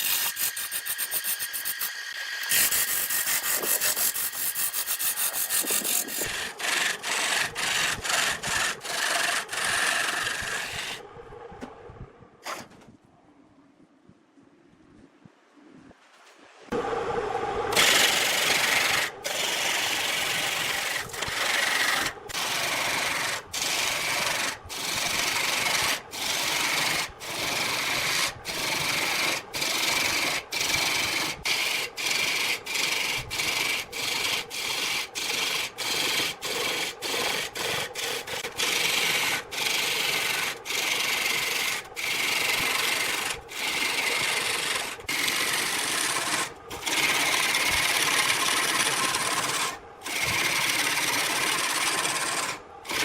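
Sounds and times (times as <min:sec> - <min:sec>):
hand rasping wood: 0:00.0 - 0:11.0, 0:17.8 - 0:53.0.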